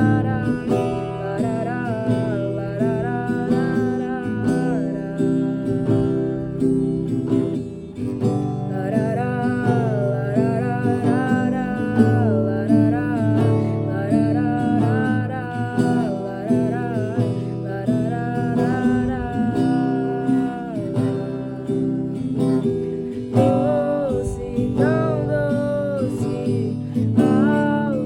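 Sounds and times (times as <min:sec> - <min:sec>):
acoustic guitar: 0:00.0 - 0:28.0
person singing: 0:00.0 - 0:28.0.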